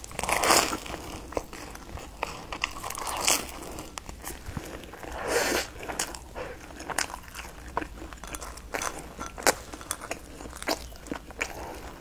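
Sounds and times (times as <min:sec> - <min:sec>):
chewing crusty fried bread: 0:00.0 - 0:12.0.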